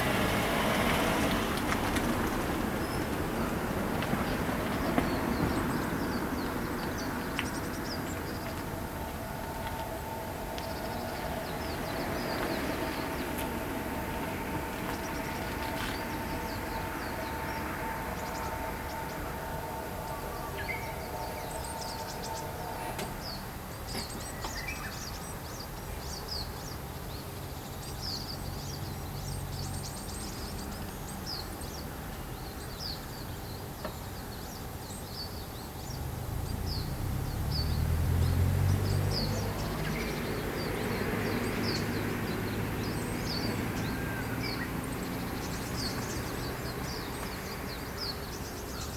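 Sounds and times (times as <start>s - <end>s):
traffic rumble: 0.0s - 48.9s.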